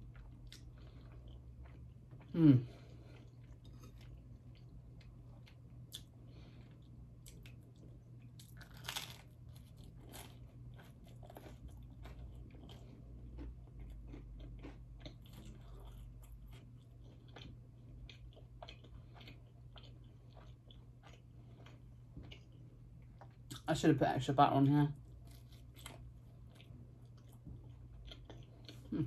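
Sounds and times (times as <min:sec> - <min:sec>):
crunchy bread biting and chewing: 0:00.0 - 0:23.6, 0:25.1 - 0:29.0
low steady hum: 0:00.0 - 0:29.0.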